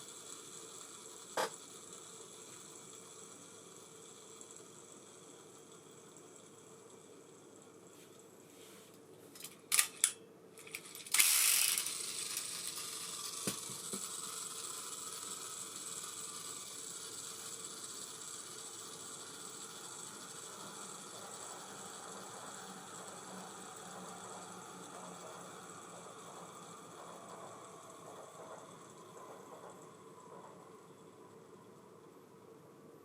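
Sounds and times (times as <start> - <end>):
fishing reel spool whirring: 0.0 - 7.9, 10.7 - 32.1.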